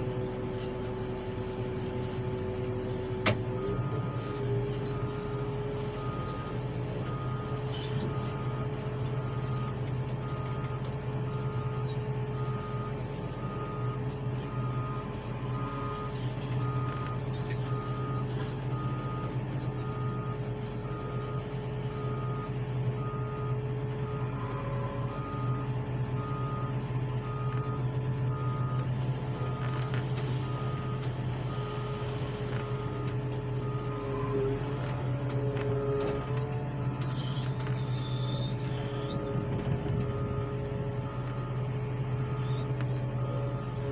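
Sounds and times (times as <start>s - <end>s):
diesel engines droning: 0.0s - 43.9s
reversing alarm beeping: 2.3s - 43.9s.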